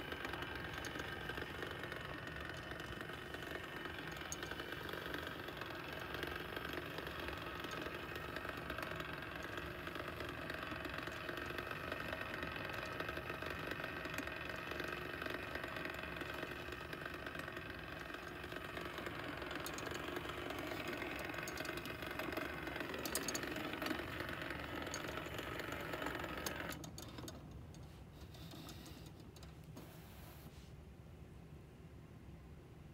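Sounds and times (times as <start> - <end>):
mechanism whirring and rattling: 0.0 - 30.4.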